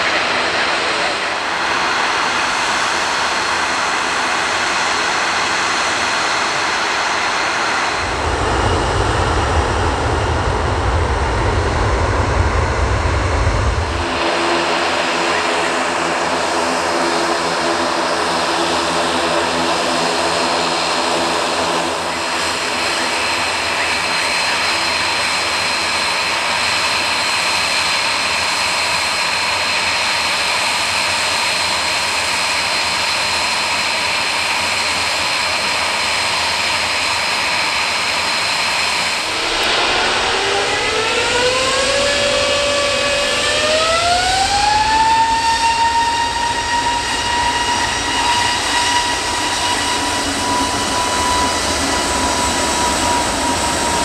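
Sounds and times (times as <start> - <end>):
high steady whine: 0.0 - 28.3, 37.0 - 54.0
jet engine rumble: 0.0 - 54.0
turboprop propeller drone: 0.0 - 54.0.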